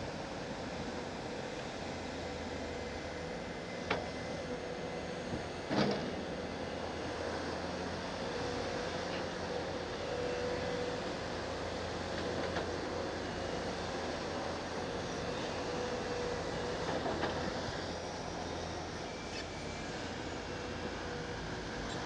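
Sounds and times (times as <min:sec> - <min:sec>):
backhoe loader engine running: 0:00.1 - 0:22.0.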